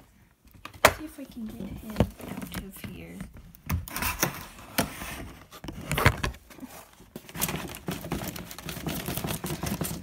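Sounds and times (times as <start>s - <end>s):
crackly packaging rustle: 0.0s - 10.0s
cardboard knocks and scrapes: 1.4s - 10.0s.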